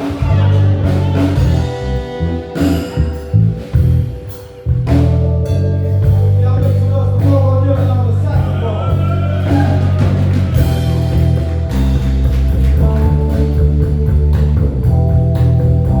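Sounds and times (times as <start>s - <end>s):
live band playing: 0.0s - 16.0s
melodic lead line: 0.0s - 16.0s.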